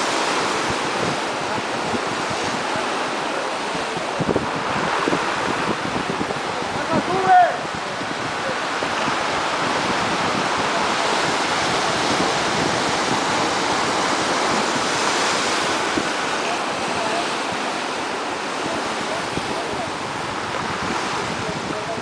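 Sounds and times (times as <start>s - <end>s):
surf breaking over rocks: 0.0s - 22.0s
wind on microphone: 0.0s - 22.0s.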